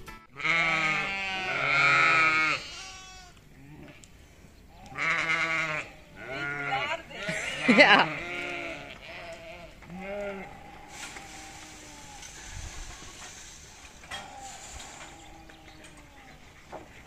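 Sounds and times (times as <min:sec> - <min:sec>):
distant livestock bleating: 0:00.3 - 0:04.1, 0:04.8 - 0:13.4, 0:14.0 - 0:16.6.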